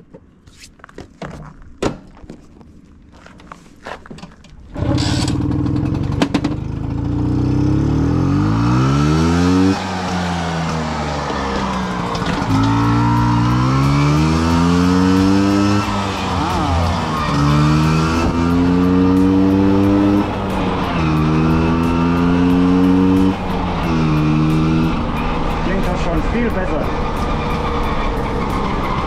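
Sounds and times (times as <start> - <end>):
scooter engine shifting gears: 1.0 - 29.0.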